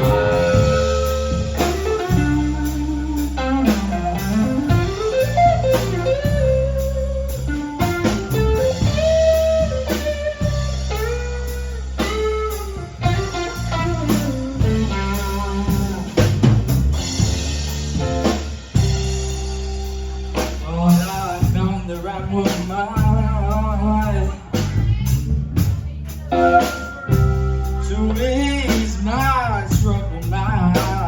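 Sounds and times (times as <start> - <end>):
electric guitar lead line: 0.0 - 24.6, 26.1 - 31.0
blues band playing: 0.0 - 31.0.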